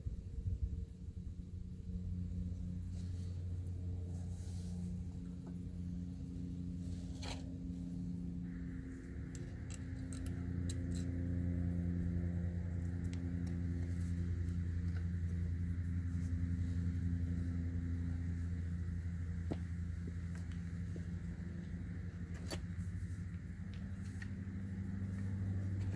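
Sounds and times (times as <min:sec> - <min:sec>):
high whine: 0:00.0 - 0:25.9.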